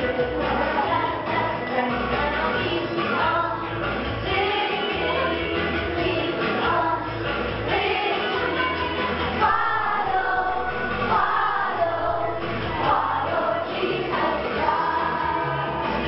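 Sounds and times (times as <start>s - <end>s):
backing music with bass beat: 0.0s - 16.0s
children singing together: 0.0s - 16.0s.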